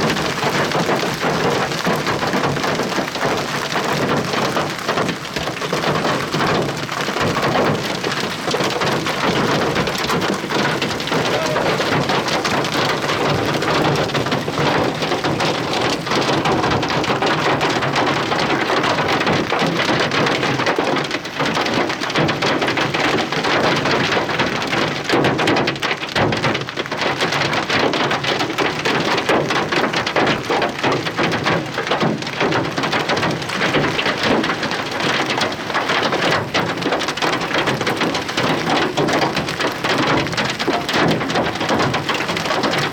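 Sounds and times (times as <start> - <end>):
heavy rain on vehicle roof: 0.0 - 42.9.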